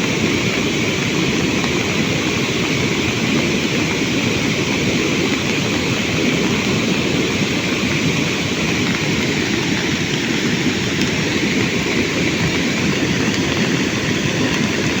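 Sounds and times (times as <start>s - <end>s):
floodwater rushing: 0.1s - 15.0s.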